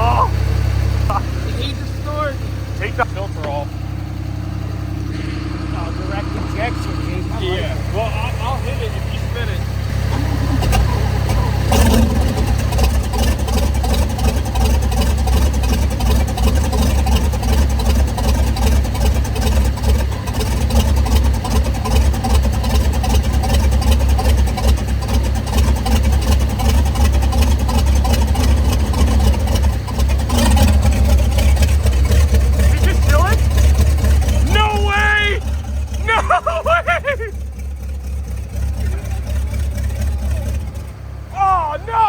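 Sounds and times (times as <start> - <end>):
boat engine chugging: 0.0 - 42.0.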